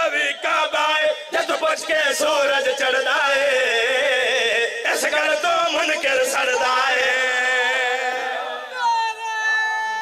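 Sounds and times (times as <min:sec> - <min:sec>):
men chanting over loudspeakers: 0:00.0 - 0:08.9.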